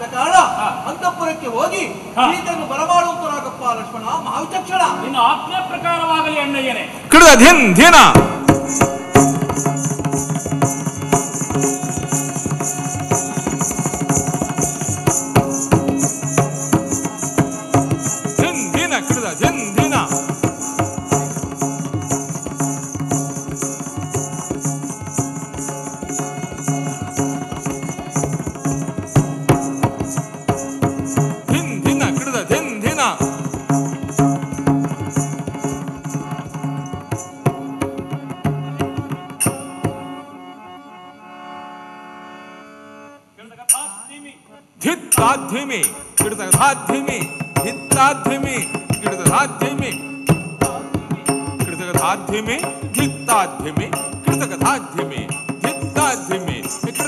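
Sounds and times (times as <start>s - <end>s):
drums and hand percussion: 7.1s - 40.2s, 43.7s - 57.0s.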